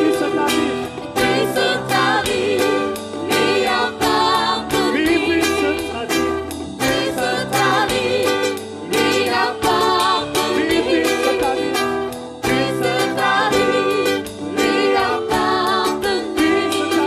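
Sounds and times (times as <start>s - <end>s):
keyboard: 0.0s - 17.0s
people singing: 0.0s - 17.0s
strummed acoustic guitar: 0.0s - 17.0s.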